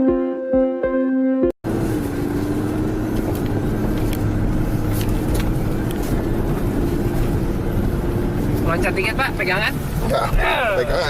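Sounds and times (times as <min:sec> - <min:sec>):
car engine and road drone: 0:01.6 - 0:11.0.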